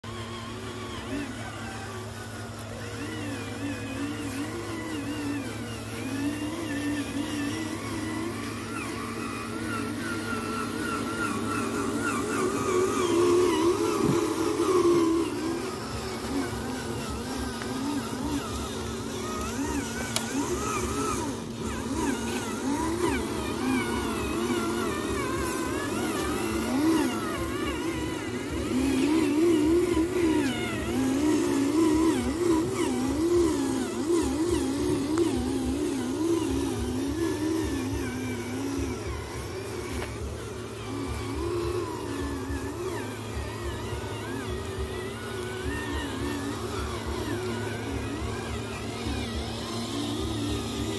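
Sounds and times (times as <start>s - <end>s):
small electric motors whining: 0.0s - 50.9s.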